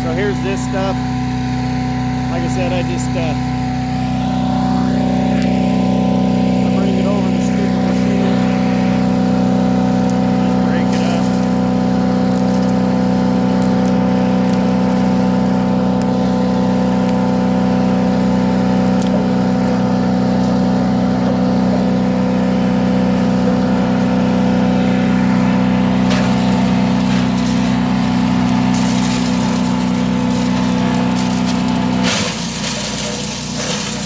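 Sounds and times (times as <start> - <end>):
wood chipper engine running: 0.0 - 34.0
wood cracking in chipper: 5.0 - 34.0.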